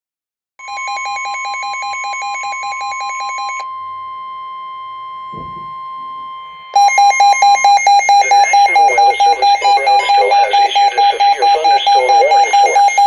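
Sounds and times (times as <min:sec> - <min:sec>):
electronic alarm beeping: 0:00.6 - 0:13.0
steady warning alarm tone: 0:00.6 - 0:13.0
loud pulsed beeping: 0:02.5 - 0:13.0.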